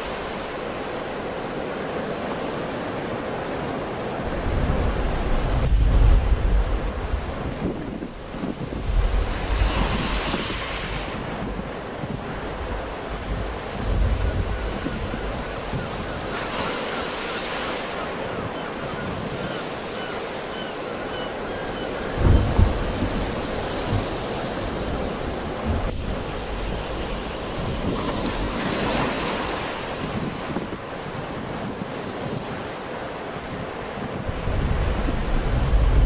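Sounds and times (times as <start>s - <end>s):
sea waves breaking on shore: 0.0s - 36.0s
wind buffeting microphone: 0.0s - 36.0s.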